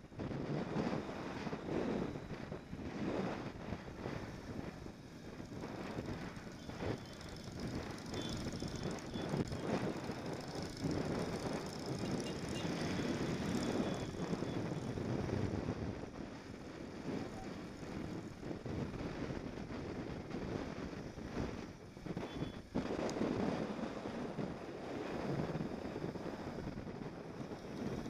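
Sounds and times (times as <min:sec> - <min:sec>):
motorcycle engine drone: 0:00.0 - 0:28.0
wind rush: 0:00.0 - 0:28.0.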